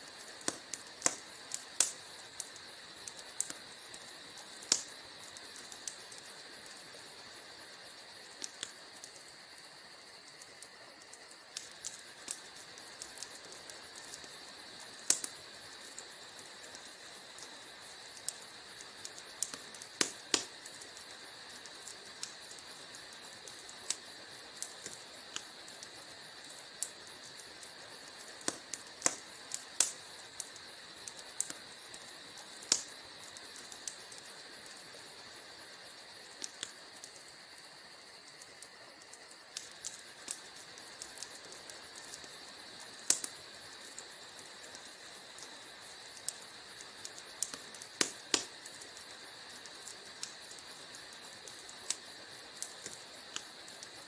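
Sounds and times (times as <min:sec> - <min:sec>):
steady high hiss: 0:00.0 - 0:54.0
wood fire crackling: 0:00.0 - 0:54.0.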